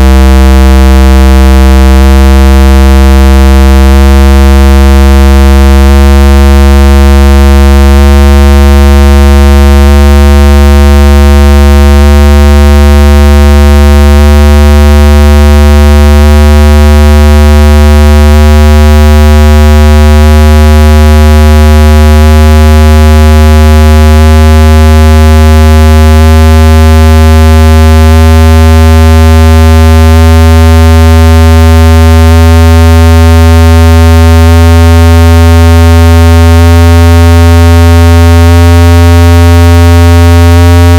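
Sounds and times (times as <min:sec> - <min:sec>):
buzzy synthesized bass tone: 0:00.0 - 0:40.9.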